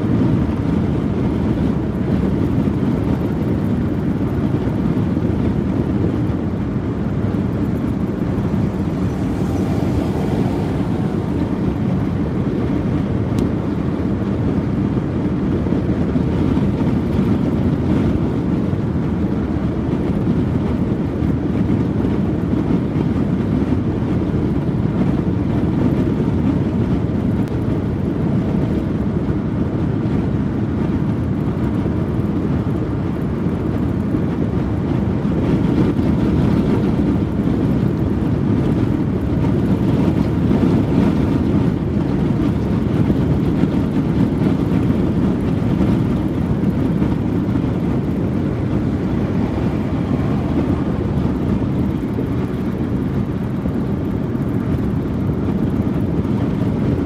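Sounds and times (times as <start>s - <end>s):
car road noise inside cabin: 0.0s - 57.0s.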